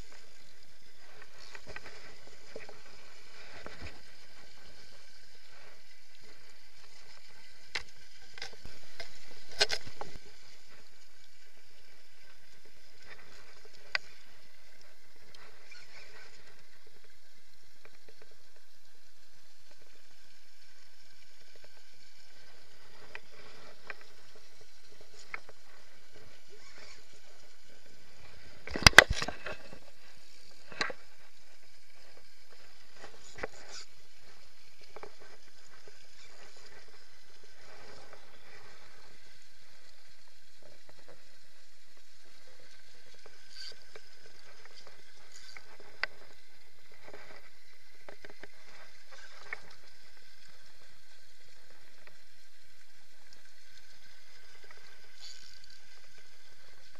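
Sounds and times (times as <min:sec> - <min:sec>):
rustle: 0:00.0 - 0:56.9
steady hiss: 0:00.0 - 0:56.9.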